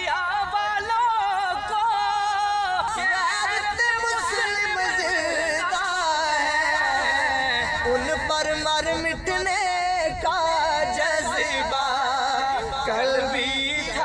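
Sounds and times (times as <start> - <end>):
men singing: 0.0 - 14.0.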